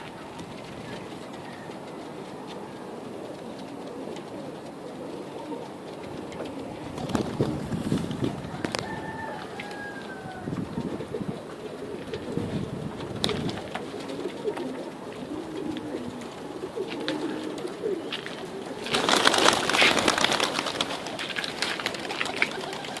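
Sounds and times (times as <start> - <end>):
pigeons cooing: 0.0 - 23.0
wings rustling flurry: 0.0 - 23.0.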